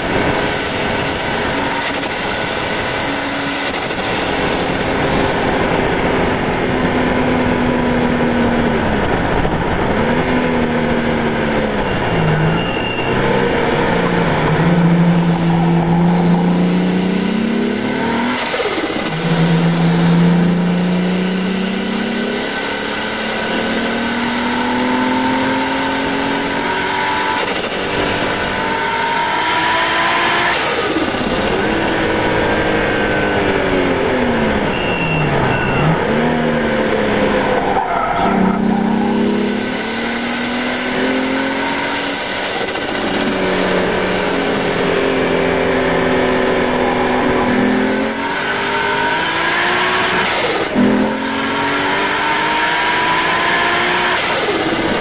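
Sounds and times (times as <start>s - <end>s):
car engine accelerating through gears: 0.0s - 55.0s
road noise: 0.0s - 55.0s
rushing wind: 0.0s - 55.0s.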